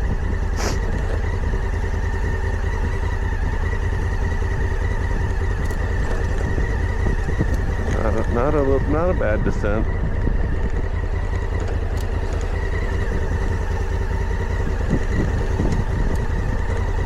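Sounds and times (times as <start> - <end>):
motorcycle engine low rumble: 0.0 - 17.0.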